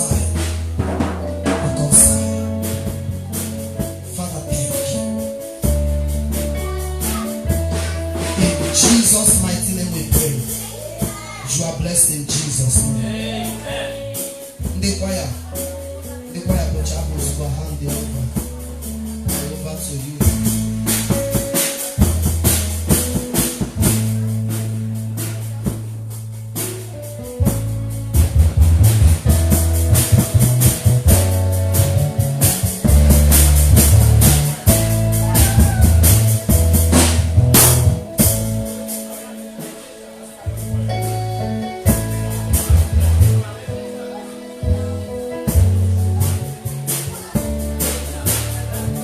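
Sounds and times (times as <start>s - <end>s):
bass guitar: 0.0s - 49.0s
church band music: 0.0s - 49.0s
drum kit: 0.0s - 49.0s.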